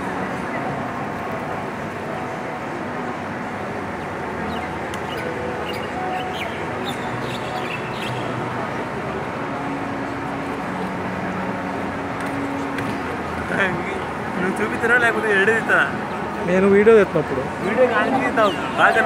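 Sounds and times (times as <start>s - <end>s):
traffic: 0.0s - 19.0s.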